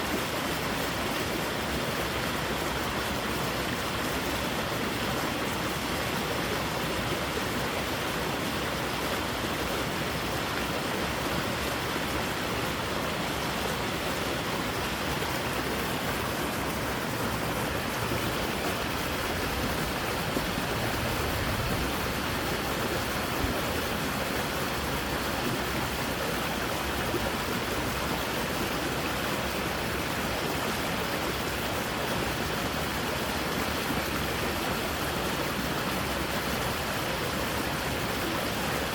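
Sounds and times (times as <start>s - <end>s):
water rushing through creek: 0.0s - 38.9s.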